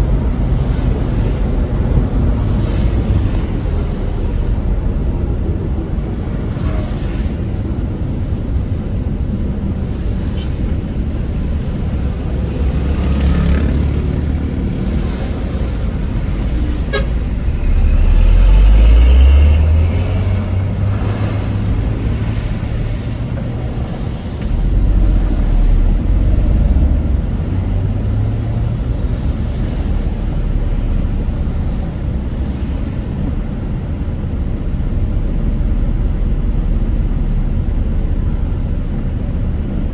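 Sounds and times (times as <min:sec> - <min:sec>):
car driving on a wet road: 0:00.0 - 0:39.9
car engine accelerating: 0:00.0 - 0:39.9.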